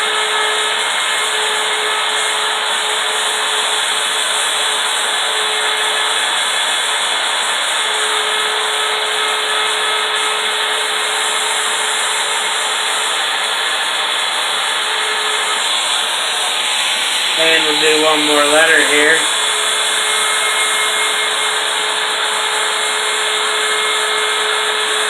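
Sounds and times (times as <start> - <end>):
bit cutting wood hiss: 0.0 - 25.0
router high whine: 0.0 - 25.0.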